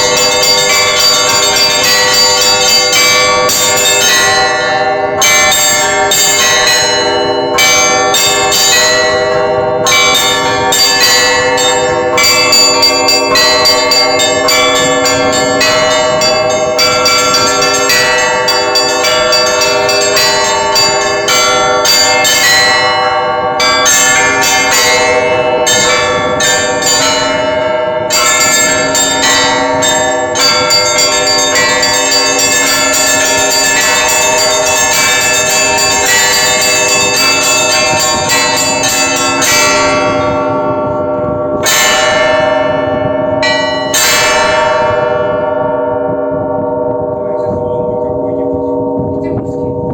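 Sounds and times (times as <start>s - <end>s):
church bells ringing: 0.0s - 49.9s.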